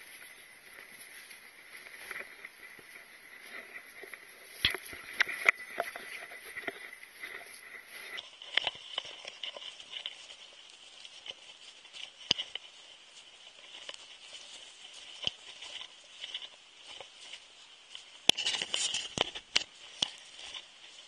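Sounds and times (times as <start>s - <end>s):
footsteps crunching in snow: 0.0s - 21.0s.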